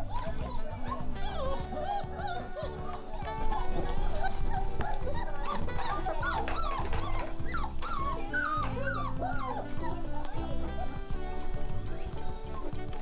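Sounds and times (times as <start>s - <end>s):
background music: 0.0s - 13.0s
puppies whining and yipping: 0.0s - 13.0s.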